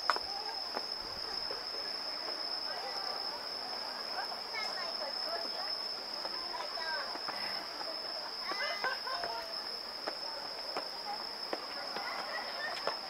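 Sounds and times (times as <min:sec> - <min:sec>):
distant chatter of people: 0:00.0 - 0:13.0
night insects chorus: 0:00.0 - 0:13.0.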